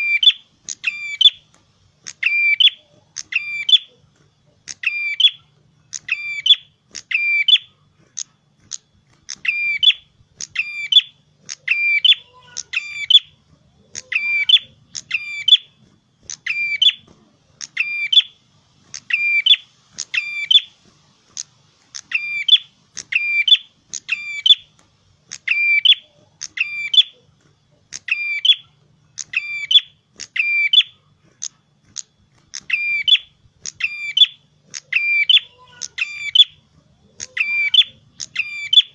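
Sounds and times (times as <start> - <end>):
songbird sharp high calls: 0.0 - 4.0, 4.7 - 7.7, 9.3 - 15.7, 16.3 - 17.0, 17.6 - 20.8, 21.9 - 27.2, 27.9 - 31.0, 32.6 - 38.9.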